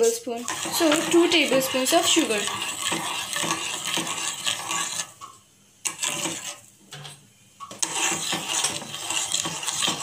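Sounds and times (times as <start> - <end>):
metal spoon stirring in saucepan: 0.0 - 10.0.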